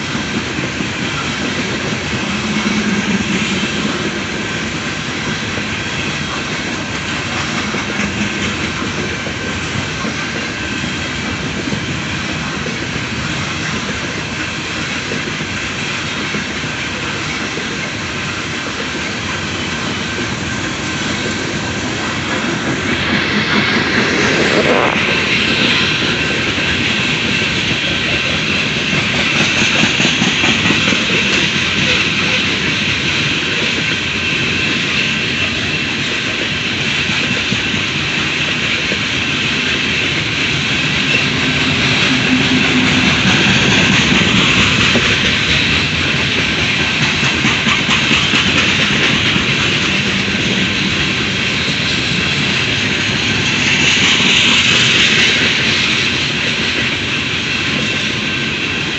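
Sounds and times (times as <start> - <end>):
train wheels rumbling on rail: 0.0 - 58.9
rapid clicking of rail joints: 0.1 - 58.2.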